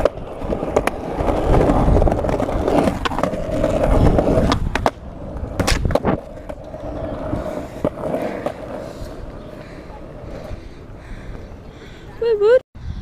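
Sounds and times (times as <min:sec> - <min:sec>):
skateboard clacks: 0:00.0 - 0:10.6
skateboard wheels rolling on concrete: 0:00.0 - 0:12.6.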